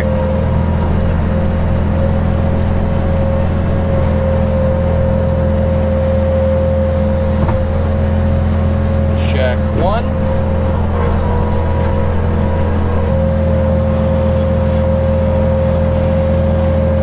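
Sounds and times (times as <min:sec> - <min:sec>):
constant high whine: 0:00.0 - 0:17.0
loader engine running: 0:00.0 - 0:17.0.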